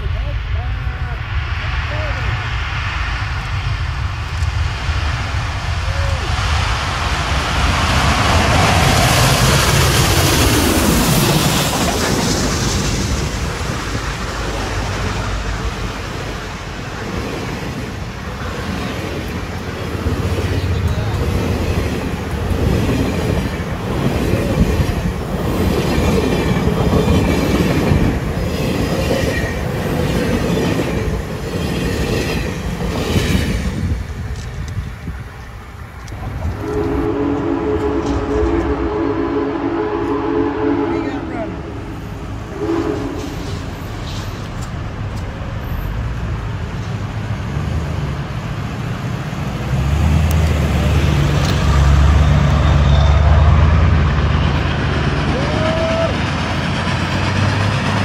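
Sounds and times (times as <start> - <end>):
steam locomotive passing: 0.0 - 58.0
train wheels clattering on rails: 4.2 - 38.8, 42.3 - 58.0.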